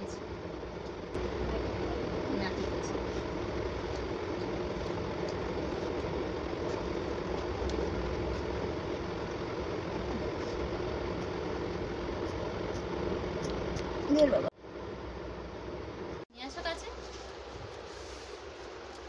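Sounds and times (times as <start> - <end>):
mechanical hum and rush: 0.0 - 19.0.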